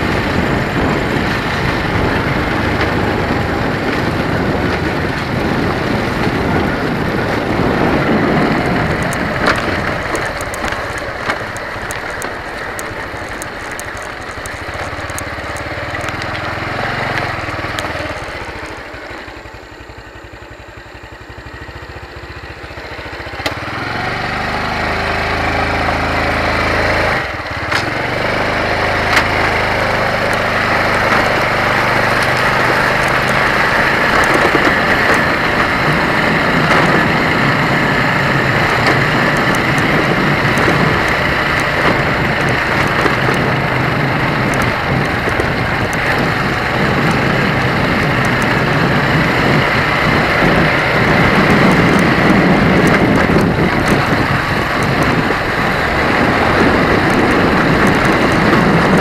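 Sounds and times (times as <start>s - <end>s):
stones ticking and knocking: 0.0s - 18.9s, 27.5s - 59.0s
motorcycle engine running: 0.0s - 59.0s
road noise: 0.0s - 59.0s.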